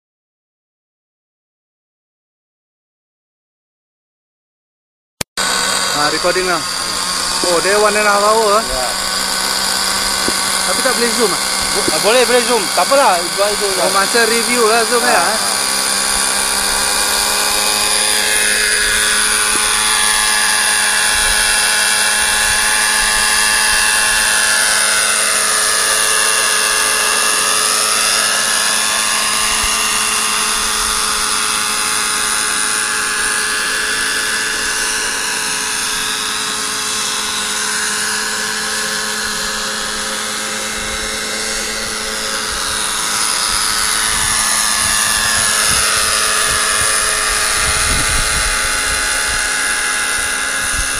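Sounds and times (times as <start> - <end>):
model helicopter engine whine: 5.4 - 50.9.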